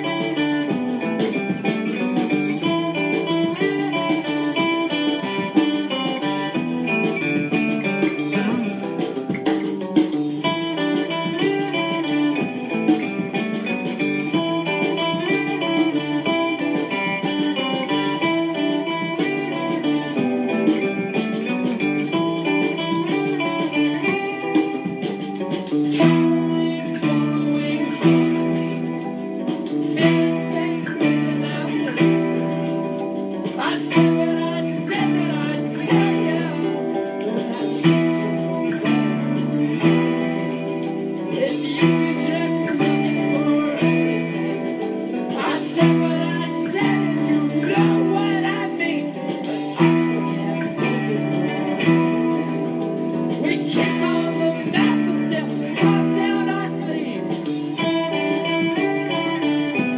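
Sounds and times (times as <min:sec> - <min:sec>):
acoustic guitar picking chords: 0:00.0 - 0:59.9.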